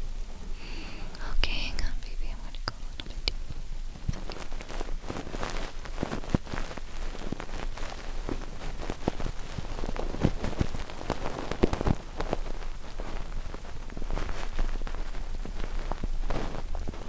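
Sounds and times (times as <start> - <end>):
scratching and crackling on microphone: 0.0 - 17.0
soft rain: 0.0 - 17.0.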